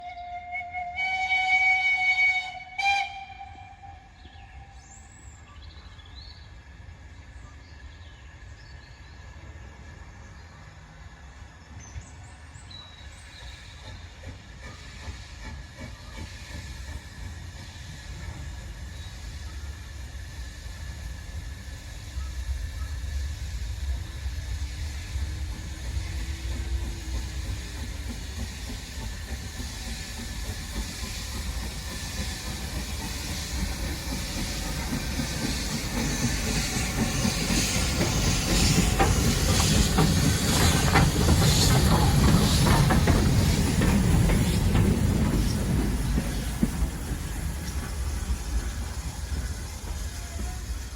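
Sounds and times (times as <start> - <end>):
hissing steam: 0.0 - 50.9
steam locomotive rumbling: 0.0 - 50.9.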